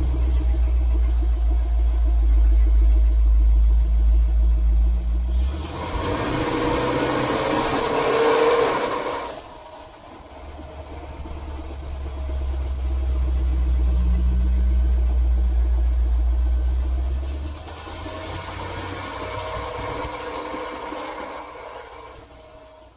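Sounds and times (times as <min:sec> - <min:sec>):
engine revving and rumbling: 0:00.0 - 0:22.9.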